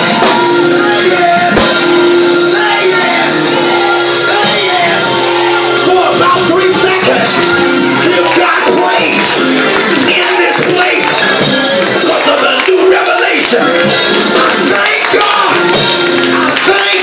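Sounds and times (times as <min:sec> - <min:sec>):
person singing and shouting: 0:00.0 - 0:15.8
live church music: 0:00.0 - 0:17.0.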